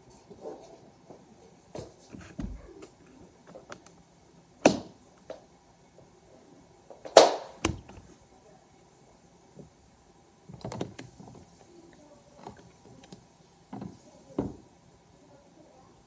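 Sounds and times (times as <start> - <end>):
ceiling fan hum: 0.0 - 16.0.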